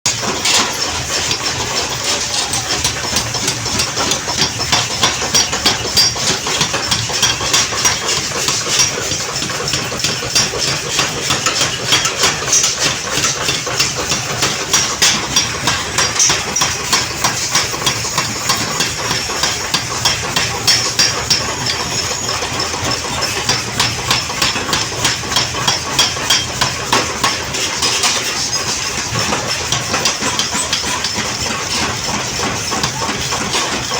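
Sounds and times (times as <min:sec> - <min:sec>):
machine running: 0:00.1 - 0:33.9
power hammer striking metal: 0:00.1 - 0:33.9.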